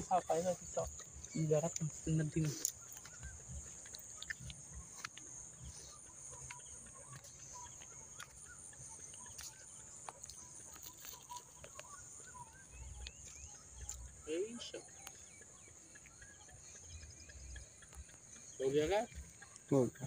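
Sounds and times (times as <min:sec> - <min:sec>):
bird chirps: 0:00.0 - 0:20.0
high-pitched insect hiss: 0:00.0 - 0:20.0.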